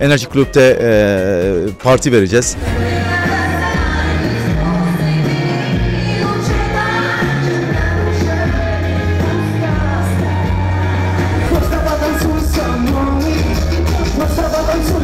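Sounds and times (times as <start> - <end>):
pop song with beat and bass: 2.5 - 15.0
person singing: 2.6 - 15.0.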